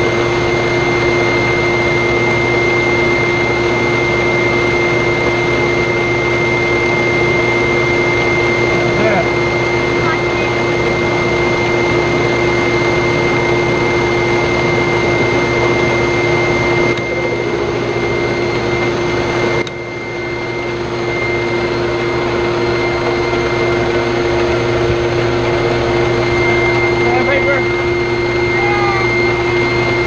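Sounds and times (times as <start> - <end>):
shop vacuum running: 0.0 - 30.0.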